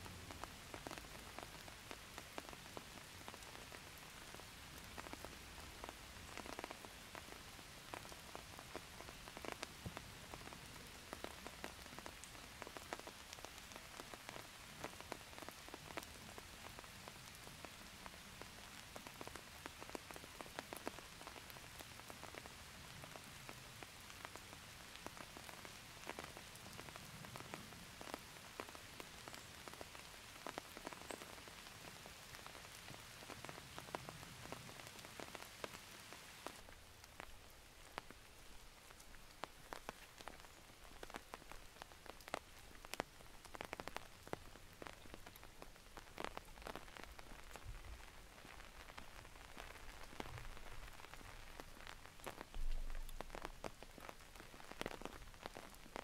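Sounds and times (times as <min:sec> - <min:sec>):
rain hiss: 0:00.0 - 0:56.0
raindrops ticking: 0:00.0 - 0:56.0.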